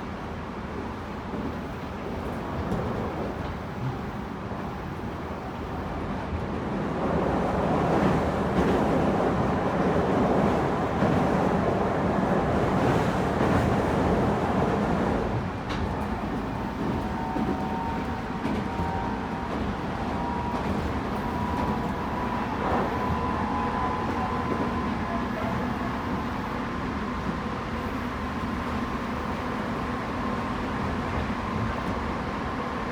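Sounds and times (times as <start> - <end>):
train wheels rumbling on track: 0.0 - 32.9.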